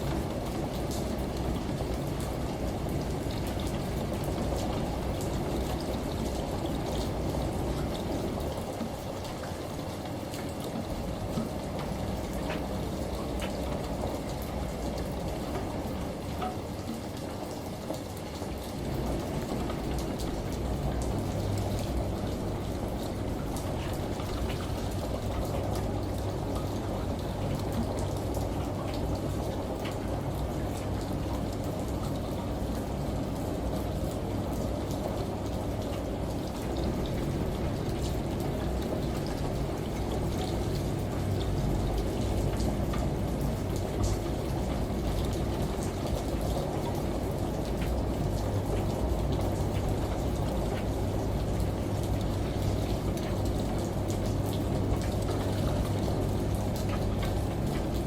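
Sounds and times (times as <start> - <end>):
rain: 0.0 - 58.0
rushing water: 0.0 - 58.0.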